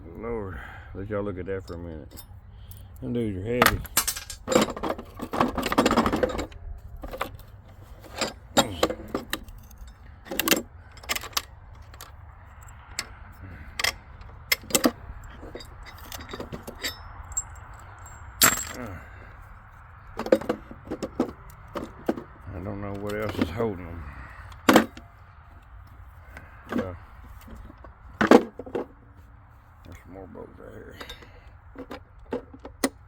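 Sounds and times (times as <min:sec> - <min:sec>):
metallic clinks and knocks: 0:01.6 - 0:23.7, 0:24.4 - 0:29.0, 0:30.9 - 0:33.0.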